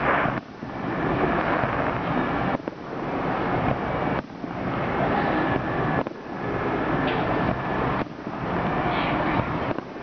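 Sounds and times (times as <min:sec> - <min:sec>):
fireworks rumbling and crackling: 0:00.0 - 0:10.0.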